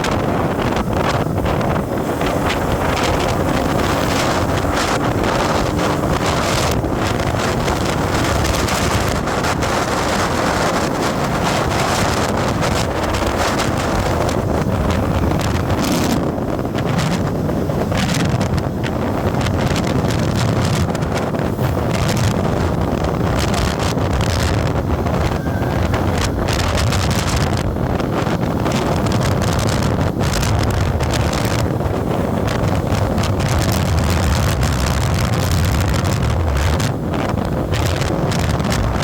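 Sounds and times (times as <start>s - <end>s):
vehicle engine and road noise: 0.0s - 39.0s
wind buffeting microphone: 0.0s - 39.0s.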